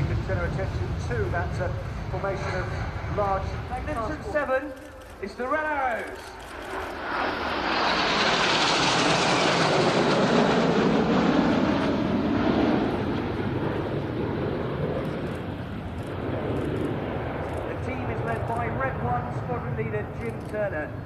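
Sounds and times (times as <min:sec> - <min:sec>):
jets flying past roaring: 0:00.0 - 0:21.0.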